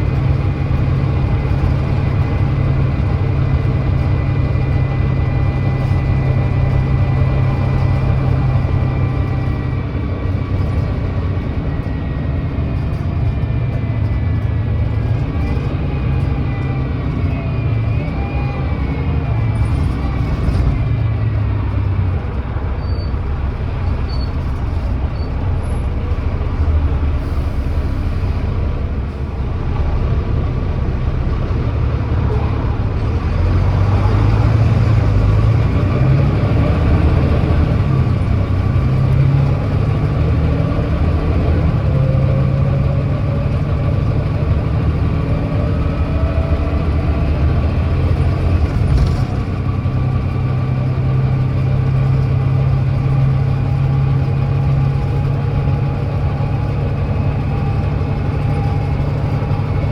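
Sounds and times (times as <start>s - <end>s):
diesel bus engine under full throttle: 0.0s - 59.9s.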